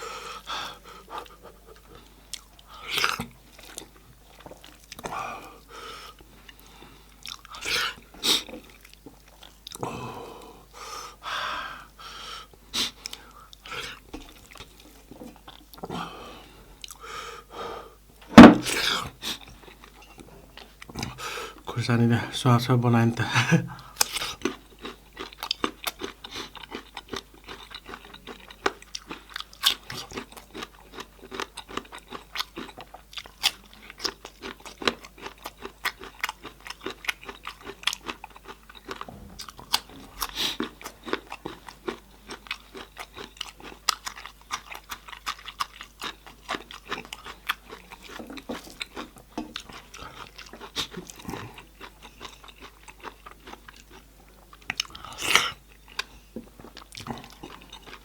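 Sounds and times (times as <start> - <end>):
person chewing and crunching food: 0.0 - 11.2, 11.8 - 58.0.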